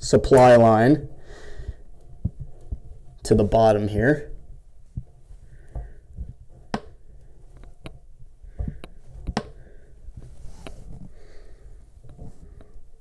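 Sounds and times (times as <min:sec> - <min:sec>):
soft handling rustle: 0:01.7 - 0:13.0.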